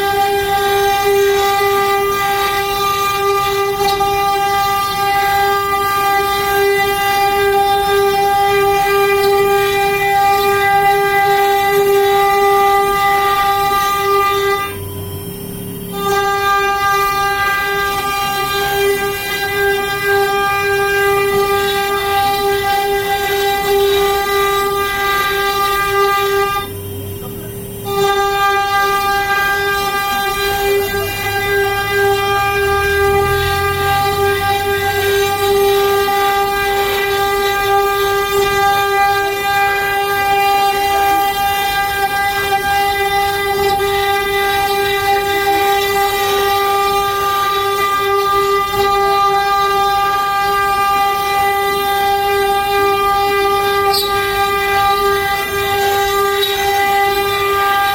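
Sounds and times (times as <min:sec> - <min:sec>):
router spindle whining: 0:00.0 - 0:57.9.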